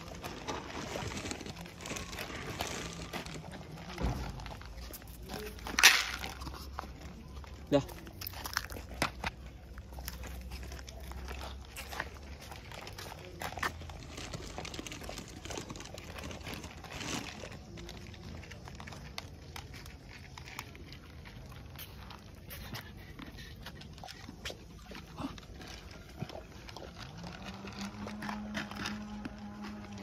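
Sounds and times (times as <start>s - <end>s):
dogs crunching dry kibble: 0.0s - 30.0s.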